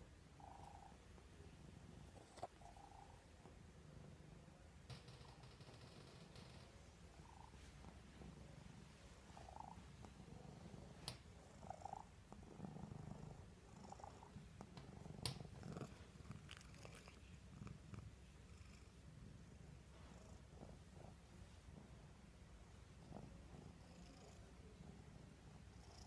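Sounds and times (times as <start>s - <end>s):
cat purring: 0.2s - 26.0s.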